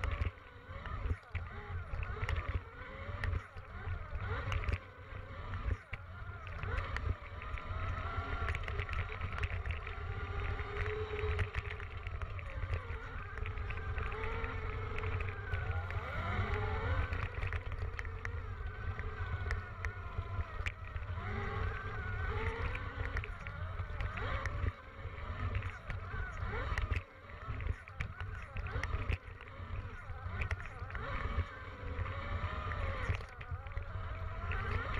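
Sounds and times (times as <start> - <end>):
electric motorbike motor whining: 0.0 - 34.9
wind rumble on microphone: 0.0 - 34.9.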